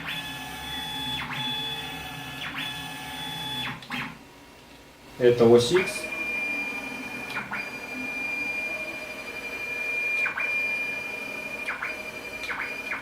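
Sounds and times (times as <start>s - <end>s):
machine motor high whine: 0.0s - 4.3s, 5.2s - 13.0s.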